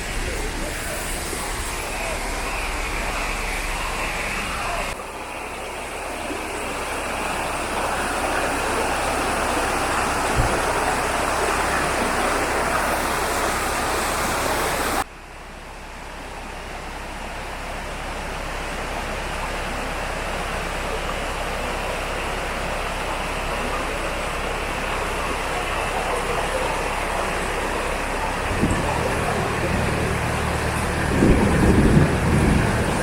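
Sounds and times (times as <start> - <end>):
flowing water rushing: 0.0 - 15.1, 16.7 - 33.0.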